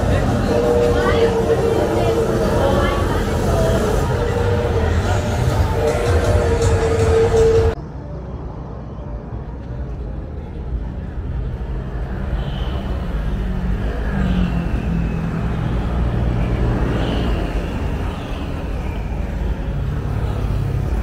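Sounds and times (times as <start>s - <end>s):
vehicle engines humming: 0.0s - 21.0s.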